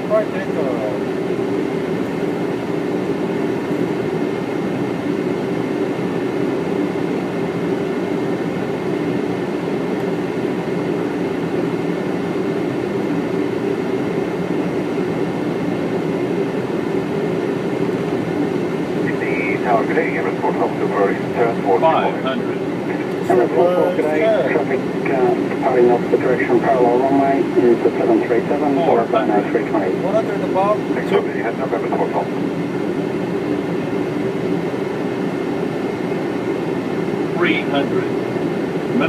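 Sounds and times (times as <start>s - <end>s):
airflow and jet engine rush: 0.0s - 39.0s.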